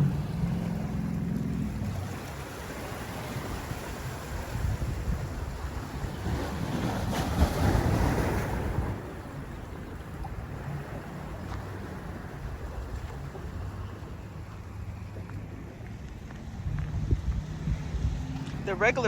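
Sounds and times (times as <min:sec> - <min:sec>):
waves washing against rocks: 0:00.0 - 0:17.3
wind rumbling on microphone: 0:00.0 - 0:19.0.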